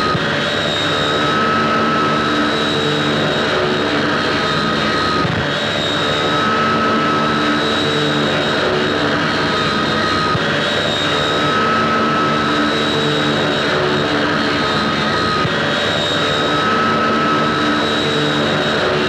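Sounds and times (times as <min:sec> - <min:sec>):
high whine: 0:00.0 - 0:19.0
propeller aircraft engine drone: 0:00.0 - 0:19.0.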